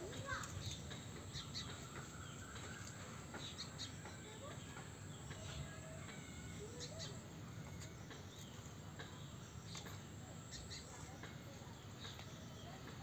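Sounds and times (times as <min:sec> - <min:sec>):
faint bird chirps: 0:00.2 - 0:13.0.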